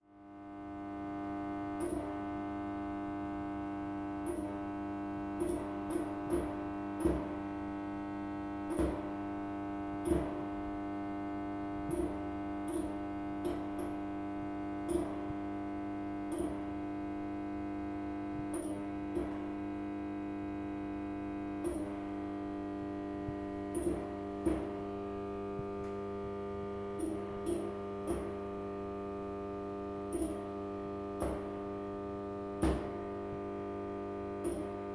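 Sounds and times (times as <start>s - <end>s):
fluorescent light buzzing: 0.2s - 34.9s.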